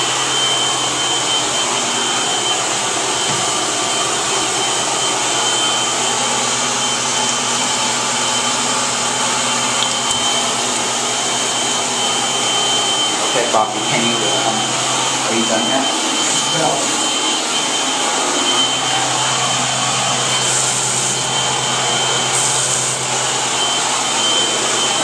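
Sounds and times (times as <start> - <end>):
electric blower motor rushing: 0.0 - 25.0.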